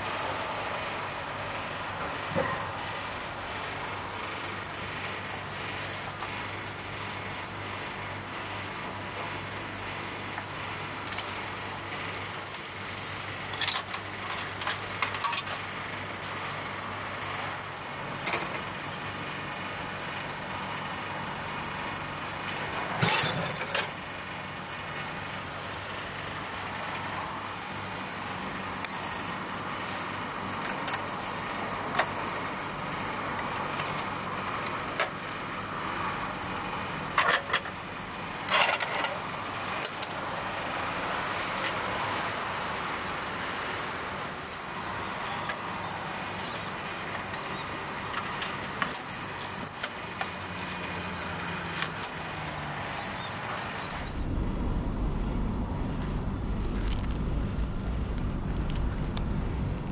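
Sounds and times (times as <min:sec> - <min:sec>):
steady hum: 0:00.0 - 0:50.5, 0:52.2 - 0:59.9
passing road traffic: 0:00.0 - 0:59.9.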